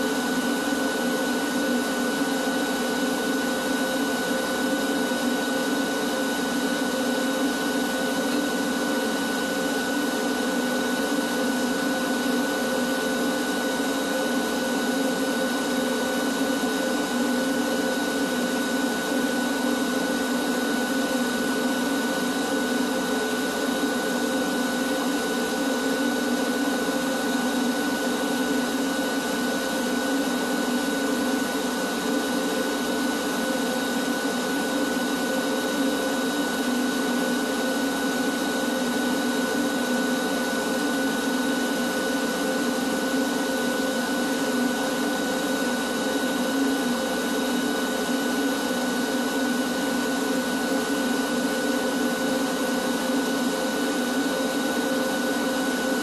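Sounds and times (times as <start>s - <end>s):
shop vacuum running: 0.0s - 56.0s.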